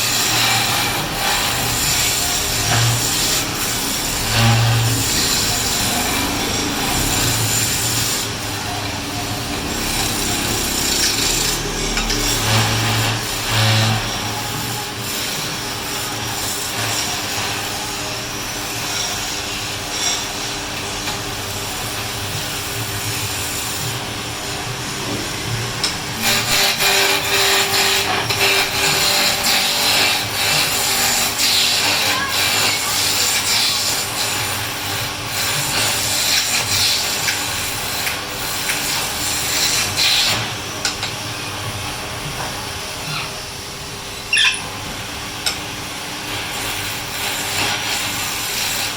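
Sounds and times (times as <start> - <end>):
lathe tool scraping spinning wood: 0.0 - 41.5, 42.3 - 48.9.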